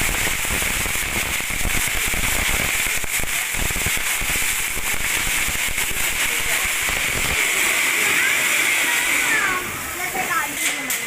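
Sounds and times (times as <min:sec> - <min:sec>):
fireworks hissing and crackling: 0:00.0 - 0:11.0.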